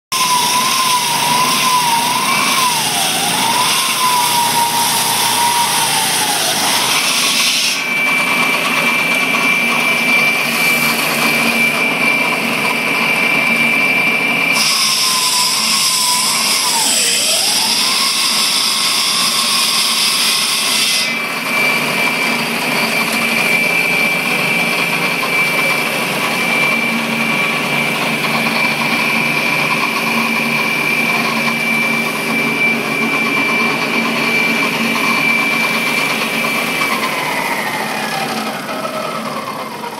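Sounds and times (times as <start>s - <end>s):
concrete saw cutting concrete: 0.1s - 39.9s.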